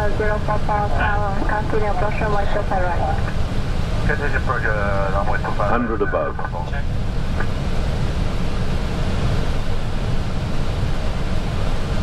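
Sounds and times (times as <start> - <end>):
air rushing over aircraft: 0.0 - 12.0.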